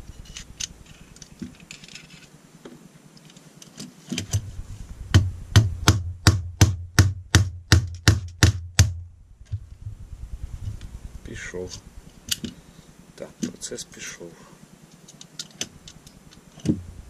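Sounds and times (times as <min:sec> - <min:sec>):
quiet handling: 0:00.0 - 0:07.2, 0:07.8 - 0:17.0.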